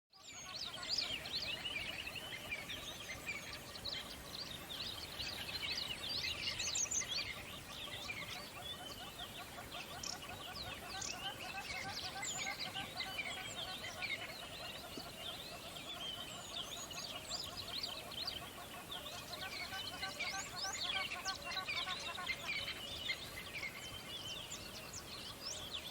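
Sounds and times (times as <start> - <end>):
faint background hiss: 0.2 - 25.9
small birds chirping: 0.2 - 25.9.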